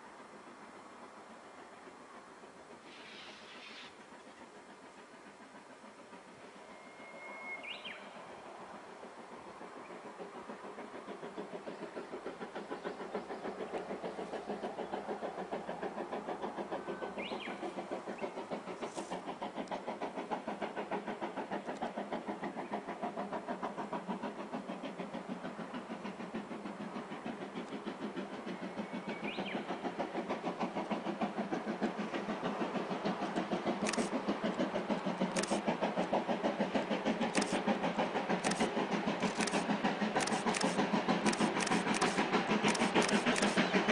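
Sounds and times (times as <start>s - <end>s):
steam locomotive exhaust chuffing: 0.0s - 43.9s.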